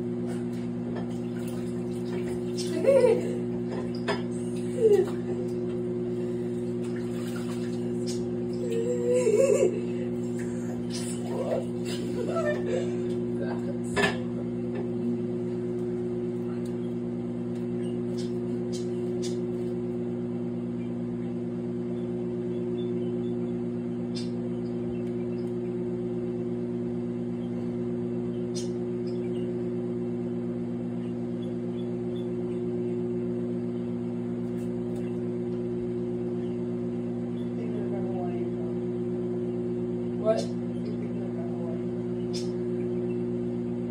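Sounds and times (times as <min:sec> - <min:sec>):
microwave oven humming: 0:00.0 - 0:43.9.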